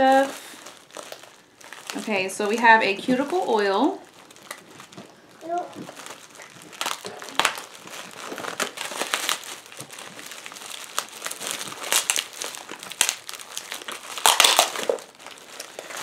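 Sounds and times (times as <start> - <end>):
bubble wrap crinkling: 0.0 - 16.0.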